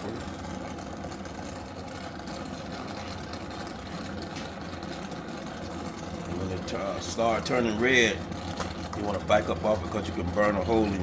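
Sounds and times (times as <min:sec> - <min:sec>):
torch flame roaring: 0:00.0 - 0:11.0.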